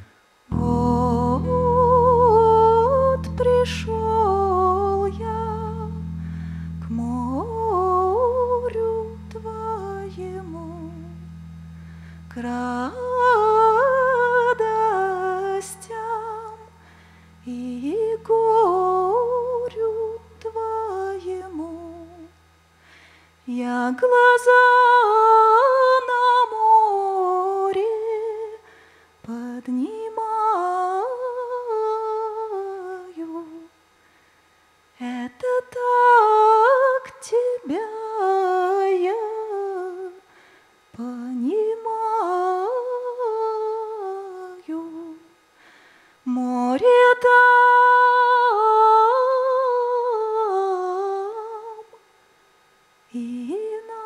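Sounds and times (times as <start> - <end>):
woman singing wordless melody: 0.0 - 22.4, 23.4 - 33.8, 35.0 - 45.4, 46.2 - 52.1, 53.1 - 54.0.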